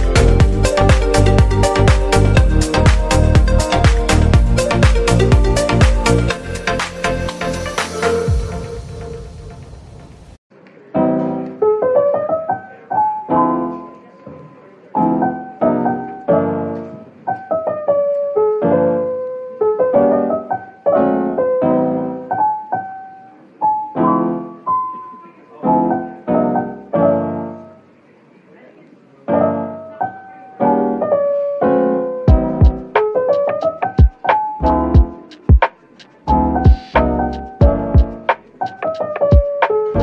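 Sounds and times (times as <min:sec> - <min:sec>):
gentle piano melody: 0:00.0 - 0:09.6, 0:10.5 - 0:40.0.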